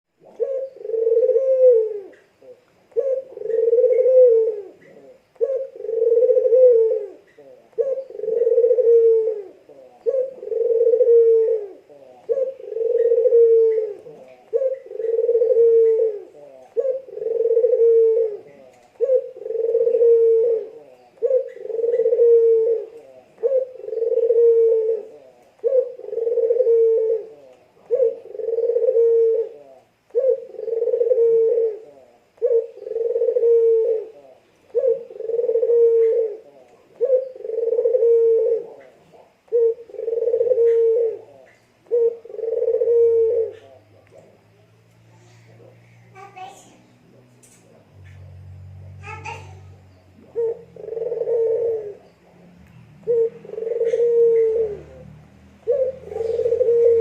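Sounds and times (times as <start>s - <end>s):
dove cooing: 0.1s - 57.0s.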